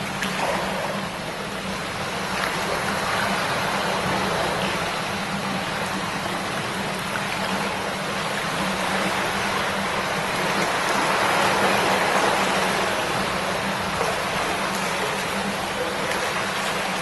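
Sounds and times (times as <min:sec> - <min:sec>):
river water babbling over stones: 0:00.0 - 0:17.0.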